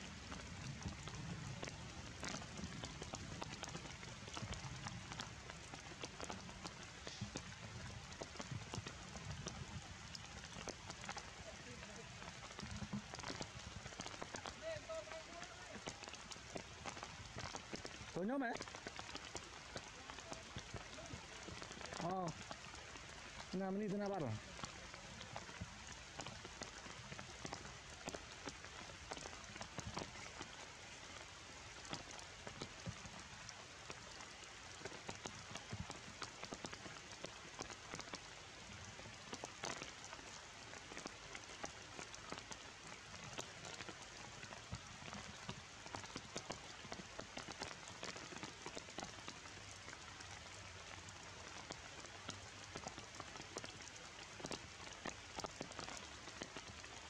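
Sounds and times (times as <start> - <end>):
rain on foliage: 0.0 - 57.0
raindrops ticking: 0.0 - 57.0.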